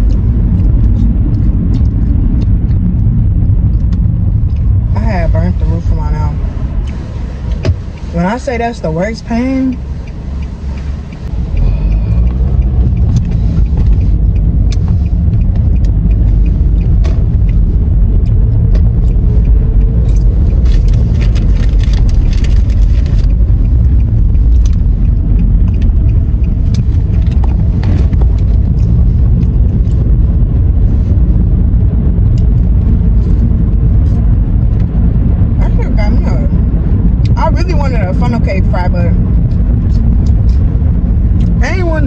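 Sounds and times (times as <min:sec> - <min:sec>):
car road noise and engine rumble: 0:00.0 - 0:42.0.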